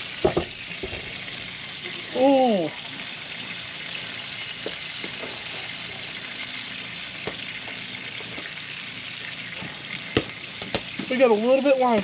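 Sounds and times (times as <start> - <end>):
grill sizzling and crackling: 0.0 - 12.0.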